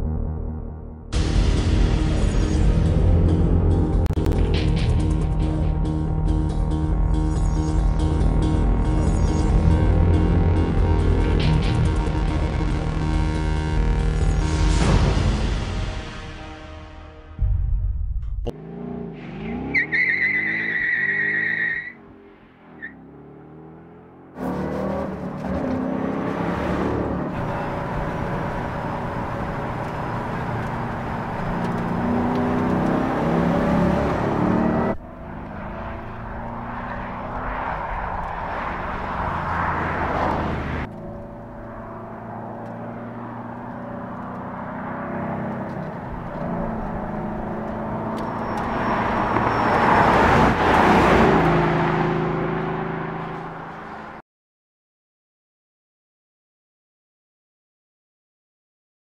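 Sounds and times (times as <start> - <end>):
car engine and exhaust accelerating: 0.0 - 15.7, 18.1 - 54.2.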